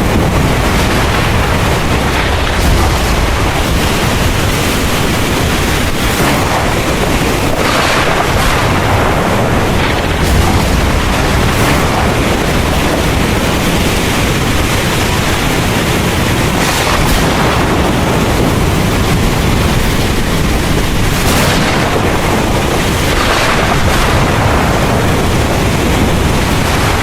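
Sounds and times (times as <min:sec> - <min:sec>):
heavy rain pouring: 0:00.0 - 0:27.0
thunder rumbling: 0:00.0 - 0:27.0.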